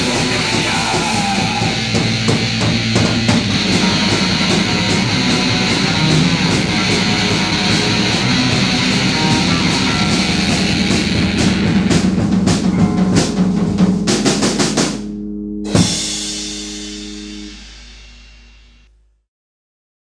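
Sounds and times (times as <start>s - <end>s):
punk rock band: 0.0s - 18.8s
pounding drum fill: 0.0s - 18.9s
held guitar chord ringing: 1.4s - 18.9s.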